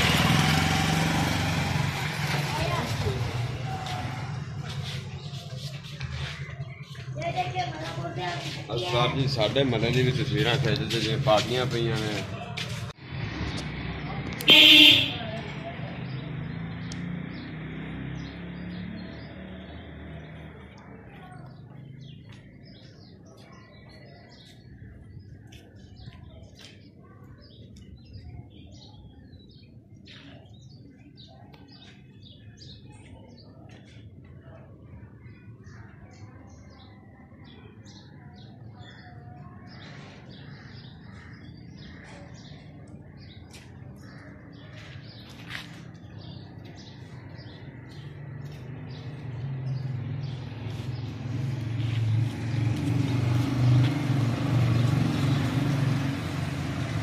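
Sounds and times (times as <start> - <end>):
small birds chirping: 2.3 - 57.0.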